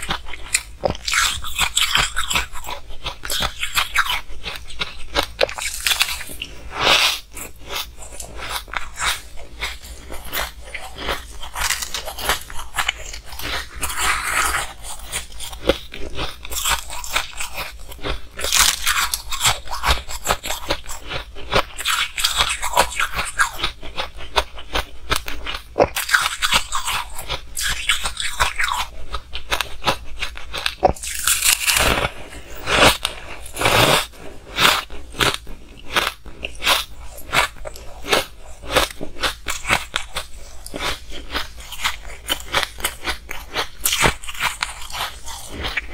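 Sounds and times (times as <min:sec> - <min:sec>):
crunching and chewing ice: 0:00.0 - 0:45.9.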